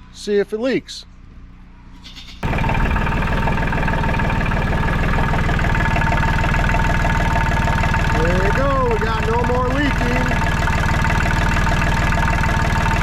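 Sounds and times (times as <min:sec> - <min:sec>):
tractor engine idling: 0:02.4 - 0:13.0.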